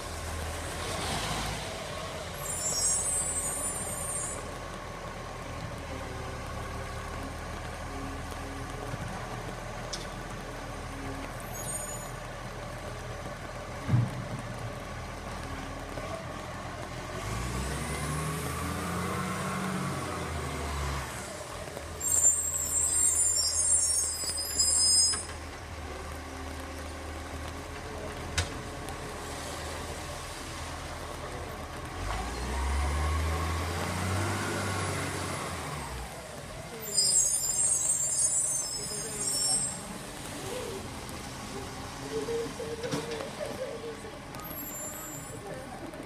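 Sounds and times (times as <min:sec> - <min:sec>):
truck diesel engine accelerating: 0:00.0 - 0:46.0.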